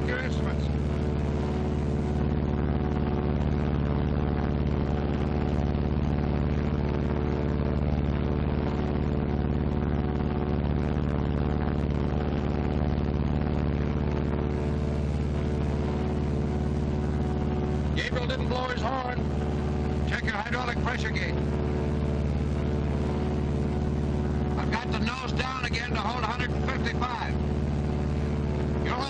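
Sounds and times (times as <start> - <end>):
aircraft engine drone: 0.0 - 29.0.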